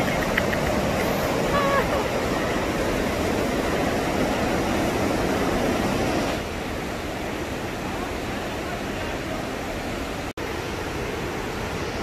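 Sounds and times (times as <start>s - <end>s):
waterfall and creek rushing: 0.0s - 12.0s.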